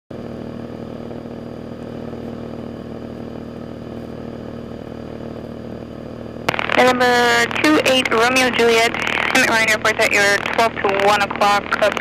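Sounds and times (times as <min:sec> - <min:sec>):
light aircraft engine drone: 0:00.2 - 0:12.0.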